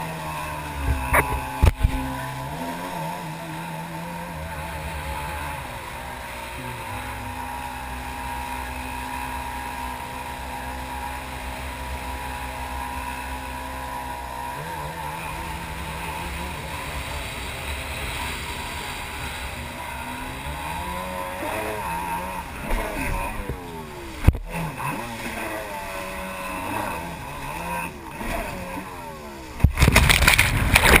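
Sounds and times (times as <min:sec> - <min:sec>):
jet ski engine: 0:00.0 - 0:31.0
rush of water spray: 0:00.0 - 0:31.0.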